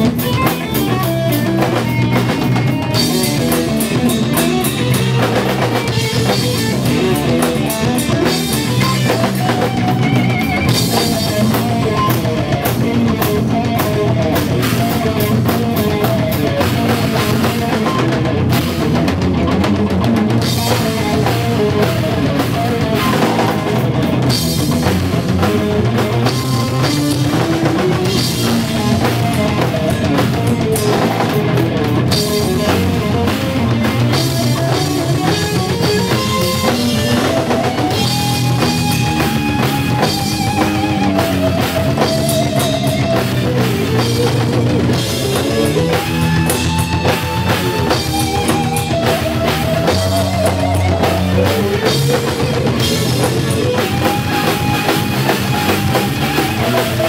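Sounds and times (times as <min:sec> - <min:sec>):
drum kit: 0:00.0 - 0:57.0
electric guitar: 0:00.0 - 0:57.0
jazz-rock band playing: 0:00.0 - 0:57.0.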